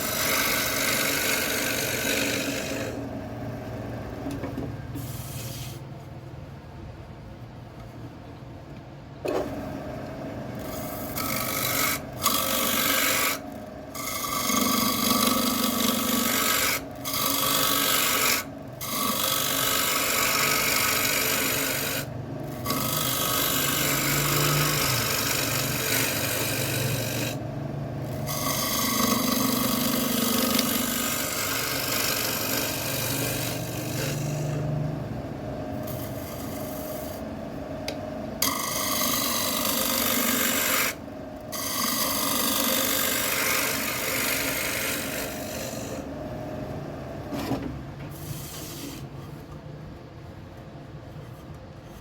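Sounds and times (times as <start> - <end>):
tool scraping wood on lathe: 0.0 - 4.4, 5.0 - 5.9, 9.3 - 35.0, 35.7 - 37.3, 38.4 - 46.2, 47.5 - 49.6
lathe motor hum: 0.0 - 4.7, 9.3 - 47.5.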